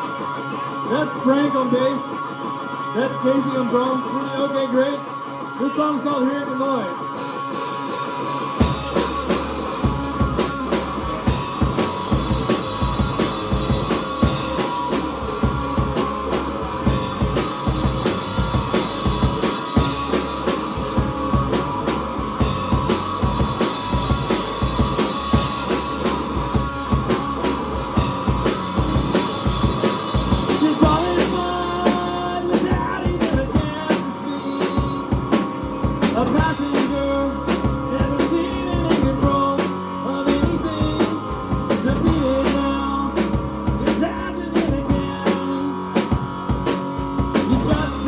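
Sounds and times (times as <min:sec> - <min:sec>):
live rock band playing: 0:00.0 - 0:48.0
drums in a driving rhythm: 0:05.0 - 0:48.0.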